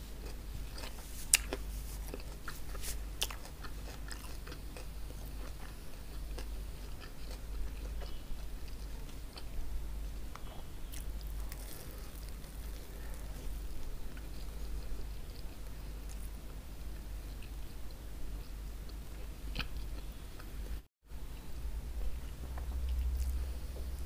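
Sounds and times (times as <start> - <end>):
steady low hum: 0.0 - 24.0
chewing crispy food: 0.2 - 9.6, 10.2 - 20.8, 22.0 - 24.0.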